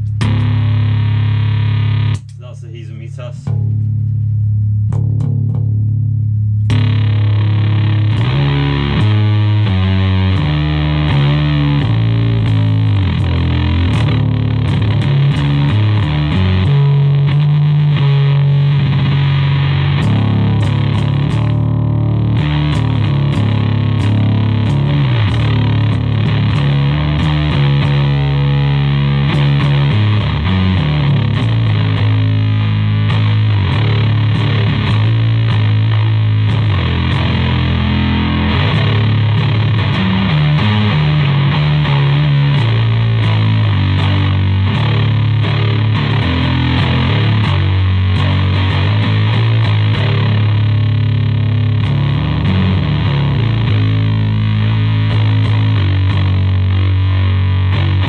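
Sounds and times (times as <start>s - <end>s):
fuzzed electric bass riff: 0.0s - 58.0s.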